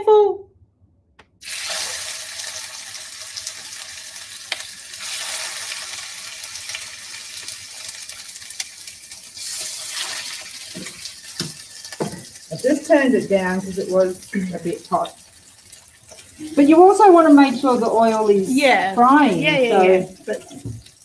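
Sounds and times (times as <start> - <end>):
patties sizzling in oil: 1.4 - 21.0.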